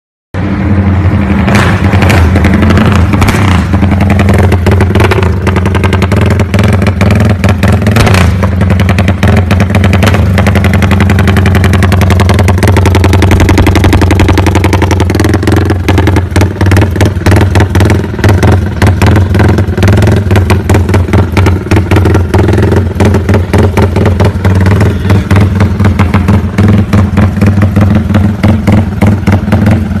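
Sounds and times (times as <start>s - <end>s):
motorcycle engine running: 0.4s - 30.0s.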